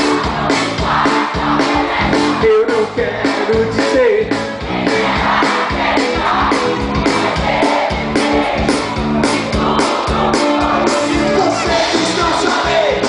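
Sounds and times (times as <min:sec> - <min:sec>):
bass guitar: 0:00.0 - 0:13.0
drums keeping a steady beat: 0:00.0 - 0:13.0
guitar: 0:00.0 - 0:13.0.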